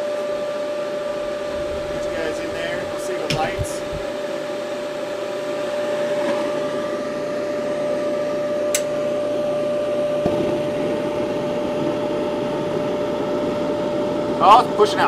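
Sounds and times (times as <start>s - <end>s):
dryer blower fan humming: 0.0s - 15.0s
gas burner flame rushing: 0.0s - 15.0s.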